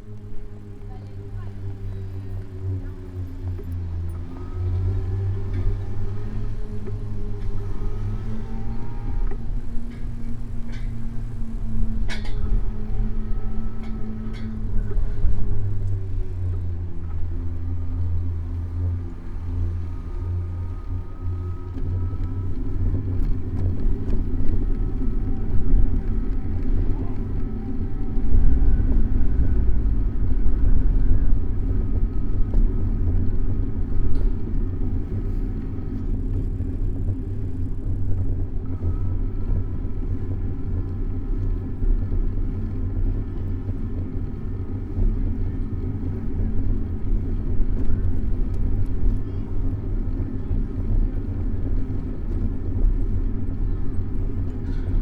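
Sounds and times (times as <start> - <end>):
passing traffic: 0.0 - 55.0
wind and road noise: 0.0 - 55.0.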